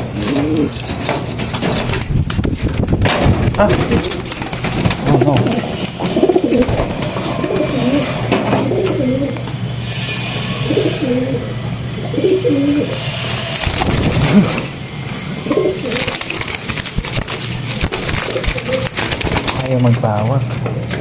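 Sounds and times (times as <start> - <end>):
low hum: 0.0 - 21.0
pigeons cooing: 0.0 - 21.0.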